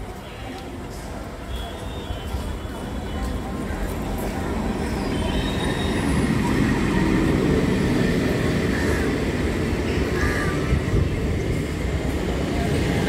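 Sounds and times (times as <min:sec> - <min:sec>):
train rumbling along tracks: 0:00.0 - 0:13.0.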